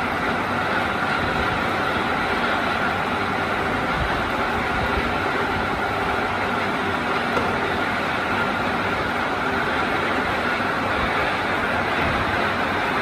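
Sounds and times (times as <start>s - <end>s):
lathe motor humming: 0.0s - 13.0s.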